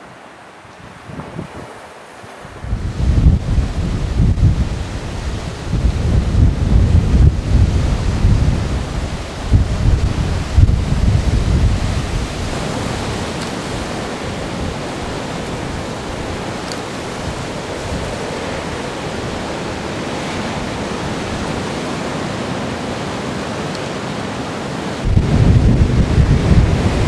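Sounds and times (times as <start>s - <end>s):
surf hissing: 0.0s - 27.0s.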